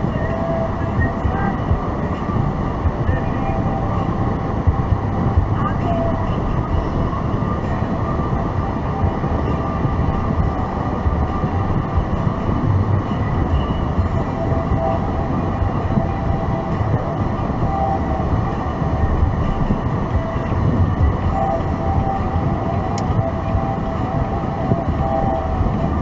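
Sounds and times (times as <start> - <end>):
car road and engine rumble: 0.0 - 26.0
faint steady tones: 0.0 - 26.0.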